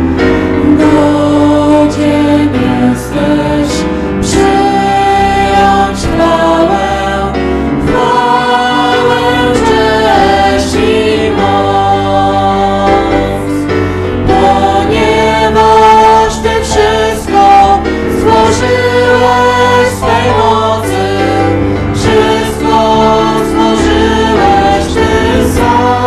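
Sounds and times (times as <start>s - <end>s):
digital piano: 0.0s - 26.0s
man and women singing worship song: 0.6s - 26.0s.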